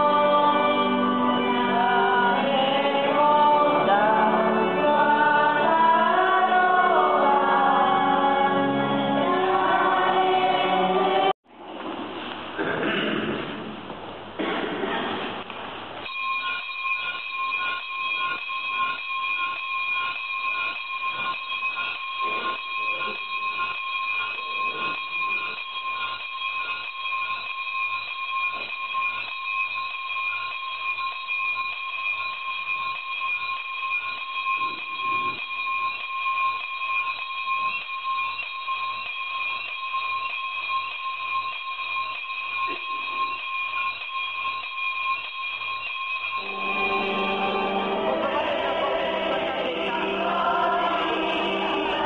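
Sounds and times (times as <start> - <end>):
bells ringing: 0.0 - 11.4, 16.0 - 52.0.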